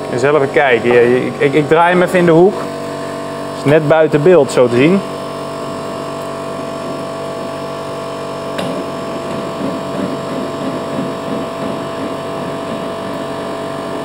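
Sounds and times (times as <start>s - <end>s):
workshop machinery hum: 0.0s - 14.0s.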